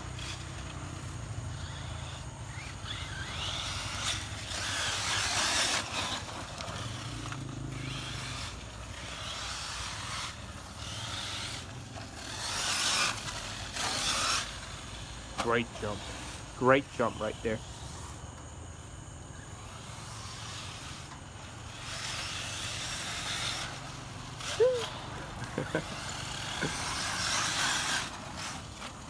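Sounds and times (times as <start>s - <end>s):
radio-controlled car motors whirring: 0.0s - 29.0s
tyres hissing on dirt: 0.0s - 29.0s.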